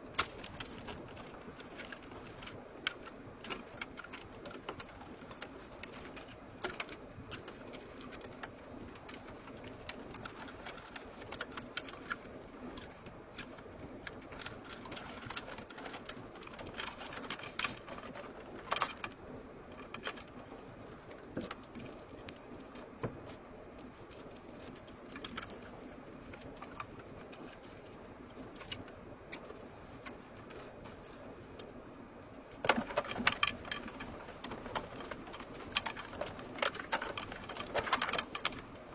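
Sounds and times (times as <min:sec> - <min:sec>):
faint steady hum: 0:00.0 - 0:38.9
small clicks and taps: 0:00.1 - 0:38.9.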